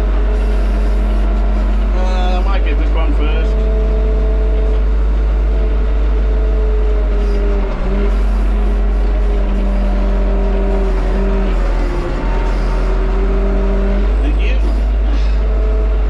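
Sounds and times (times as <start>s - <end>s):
tractor engine rumble with whine: 0.0s - 16.0s.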